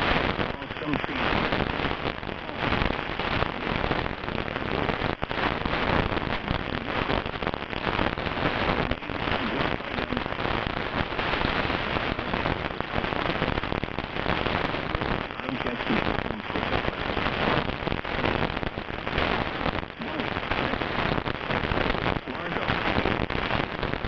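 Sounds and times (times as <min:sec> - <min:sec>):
radio static crackling hiss: 0:00.0 - 0:24.0.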